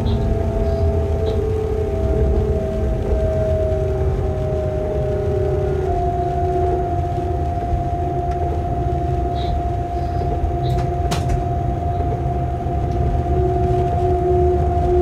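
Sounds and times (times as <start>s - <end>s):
locomotive rumble: 0.0s - 15.0s
steady humming tone: 0.0s - 15.0s.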